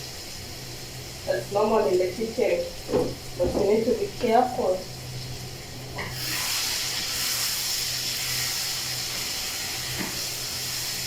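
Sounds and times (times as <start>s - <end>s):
stew sizzling in a hot pot: 0.0s - 11.0s.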